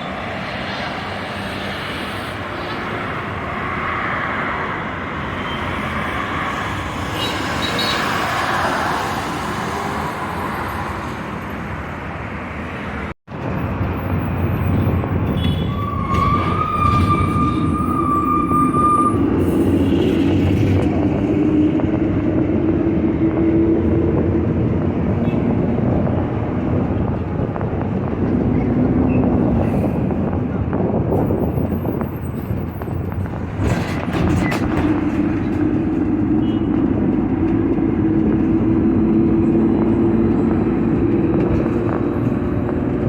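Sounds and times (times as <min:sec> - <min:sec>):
road traffic rush: 0:00.0 - 0:43.0.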